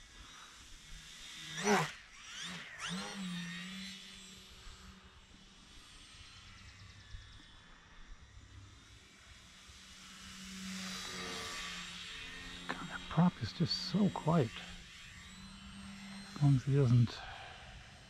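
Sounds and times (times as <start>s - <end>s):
model plane propeller drone: 0.0s - 18.0s.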